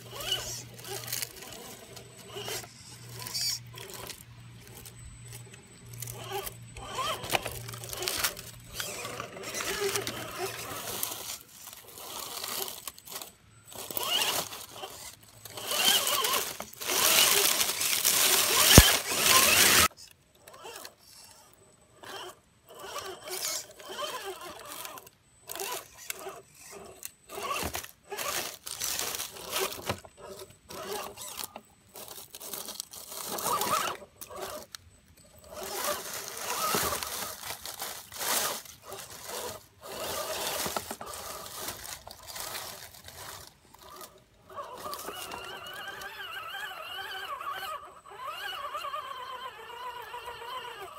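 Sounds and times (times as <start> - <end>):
leaves crunching under tyres: 0.0 - 19.9, 27.3 - 34.8, 35.4 - 50.8
small electric motor whirring: 0.0 - 50.9.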